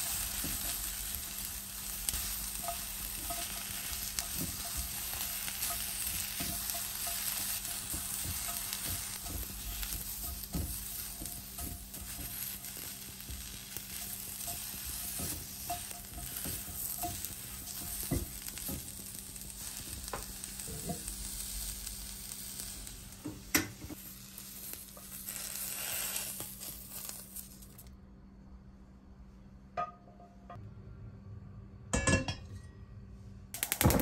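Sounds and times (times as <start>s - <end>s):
cabbage sizzling in a pan: 0.0s - 27.9s.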